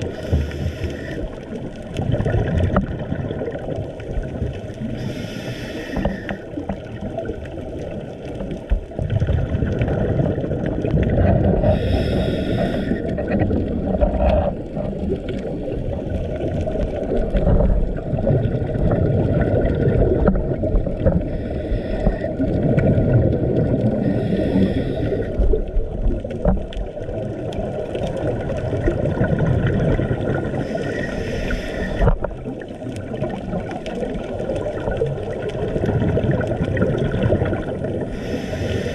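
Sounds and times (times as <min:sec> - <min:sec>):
scuba exhaust bubbles hissing: 0:00.0 - 0:08.1, 0:09.1 - 0:38.9
underwater rumble of moving water: 0:00.0 - 0:38.9.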